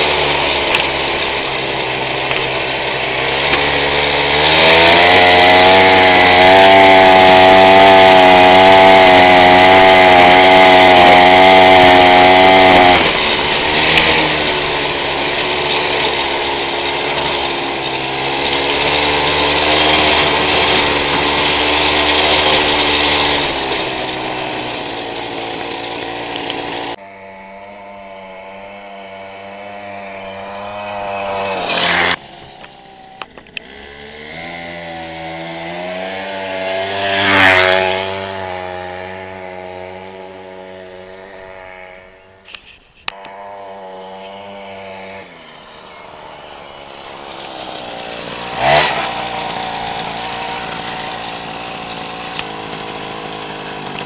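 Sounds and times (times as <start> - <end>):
mini motorbike engine buzzing: 0.0 - 54.0
mini motorbike revving past: 0.0 - 54.0.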